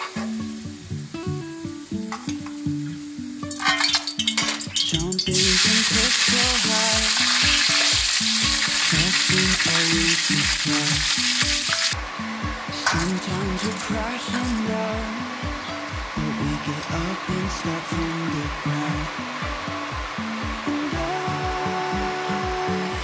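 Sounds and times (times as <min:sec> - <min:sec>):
background music with beat: 0:00.0 - 0:23.0
tomatoes sizzling in oil: 0:00.0 - 0:23.0.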